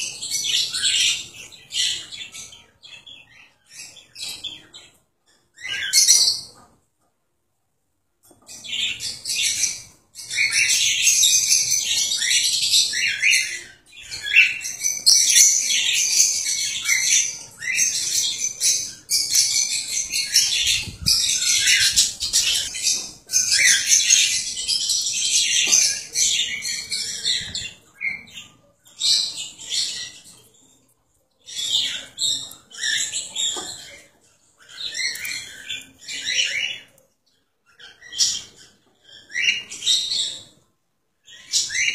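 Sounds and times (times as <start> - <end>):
cockatiels chirping: 0.0 - 6.8, 8.2 - 30.8, 31.4 - 37.0, 37.6 - 40.7, 41.3 - 41.9.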